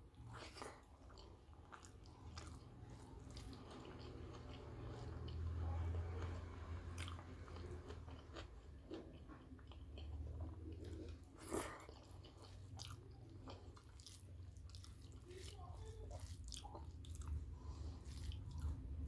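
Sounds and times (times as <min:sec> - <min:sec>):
chewing food: 0:00.1 - 0:19.0.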